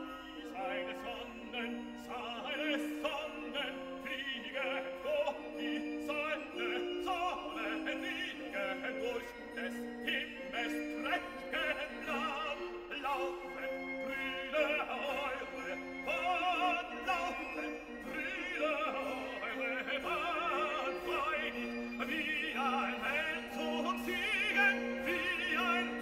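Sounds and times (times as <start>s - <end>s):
classical accompaniment: 0.0s - 26.0s
operatic singing: 0.0s - 26.0s.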